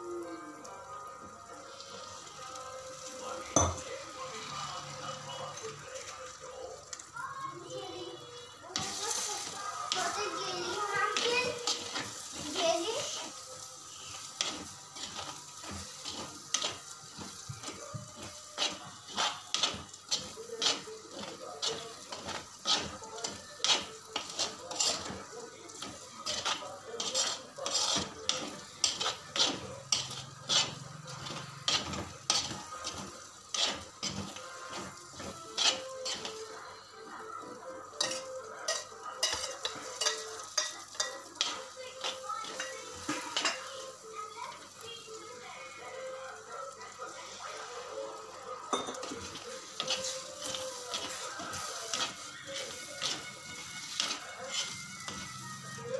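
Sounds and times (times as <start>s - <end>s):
food sizzling: 0.0s - 55.9s
metal spoon scraping a pan: 8.7s - 44.8s, 45.7s - 55.9s.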